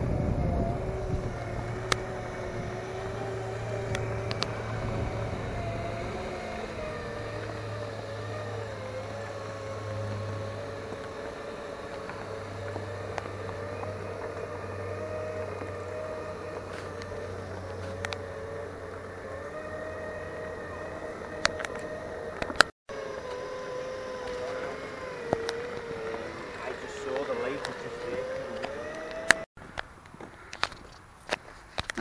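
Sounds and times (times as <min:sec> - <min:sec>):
low hum: 0:00.0 - 0:29.5
electric drive whining: 0:00.0 - 0:31.1.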